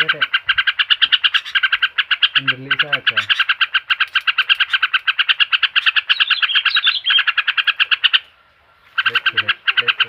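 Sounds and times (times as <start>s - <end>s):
chattering bird call: 0.0s - 8.3s, 8.9s - 10.0s.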